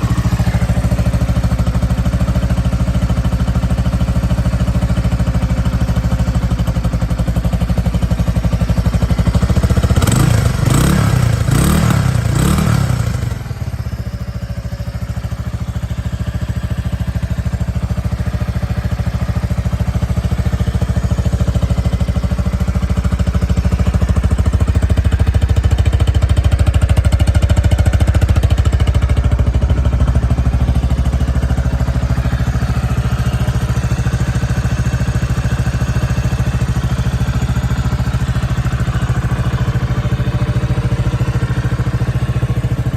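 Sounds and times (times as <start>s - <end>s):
motorcycle engine revving and idling: 0.0s - 42.9s.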